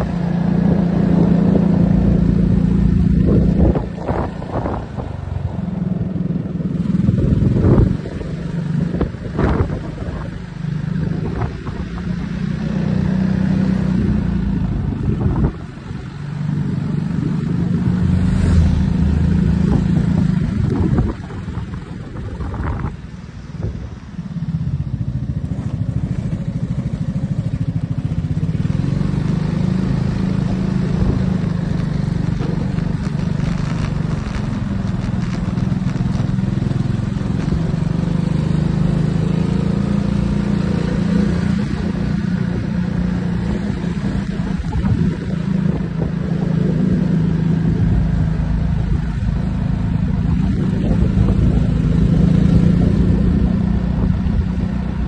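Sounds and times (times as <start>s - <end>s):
scooter engine running: 0.0s - 55.0s.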